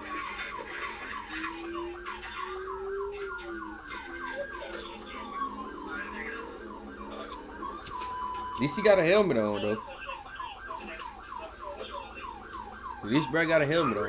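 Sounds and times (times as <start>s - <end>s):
police siren yelp: 0.0s - 14.0s
siren rising and falling tone: 0.0s - 14.0s.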